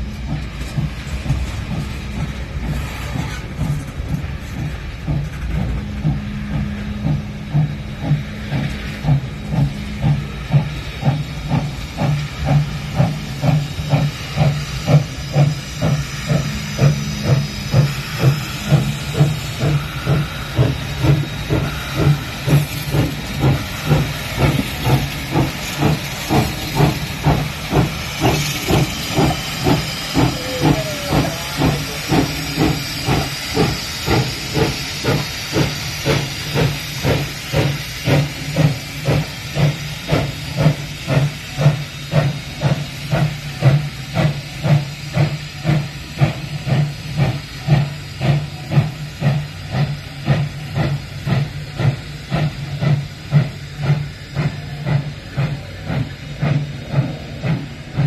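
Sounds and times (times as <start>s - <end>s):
steam hissing: 0.0s - 58.0s
steam locomotive exhaust chuffs: 0.0s - 58.0s.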